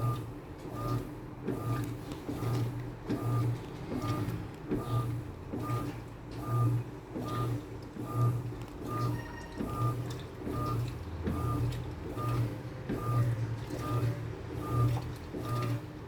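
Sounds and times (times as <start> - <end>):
washing machine motor pulsing: 0.0 - 16.0.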